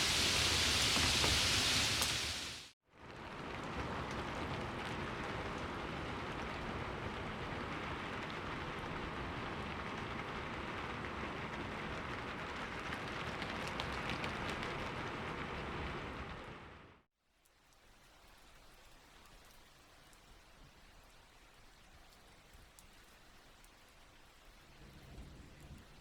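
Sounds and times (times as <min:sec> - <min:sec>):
rain pattering on a surface: 0:00.0 - 0:26.0.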